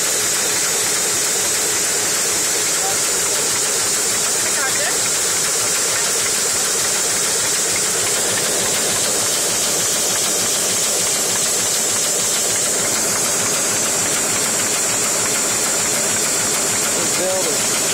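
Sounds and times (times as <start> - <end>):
printing press clattering: 0.1 - 17.9.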